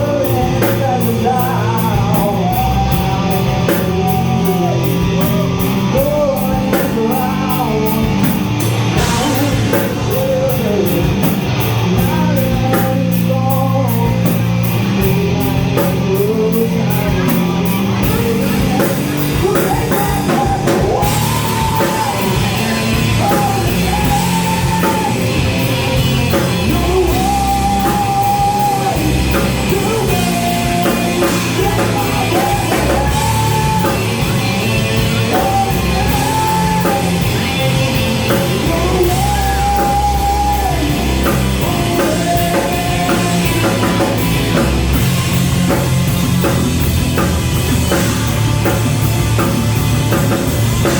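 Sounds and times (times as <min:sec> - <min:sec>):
person singing: 0:00.0 - 0:46.6
live rock band playing: 0:00.0 - 0:50.9.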